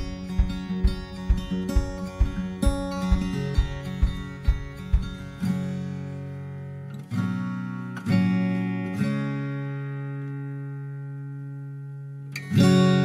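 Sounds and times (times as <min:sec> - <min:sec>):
strummed guitar chords: 0:00.0 - 0:13.0.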